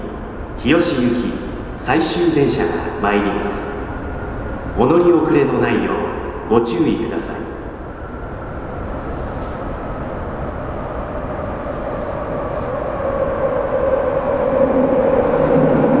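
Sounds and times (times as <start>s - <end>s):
steady whine: 0.0s - 16.0s
train approaching on track: 0.0s - 16.0s.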